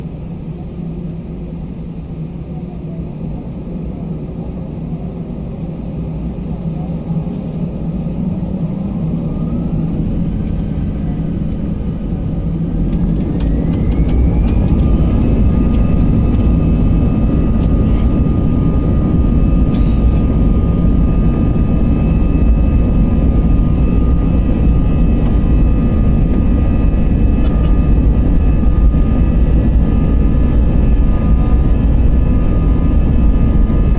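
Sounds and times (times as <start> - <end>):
jet engines whining: 0.0 - 33.9
heavy rumble of take-off roll: 6.0 - 33.9.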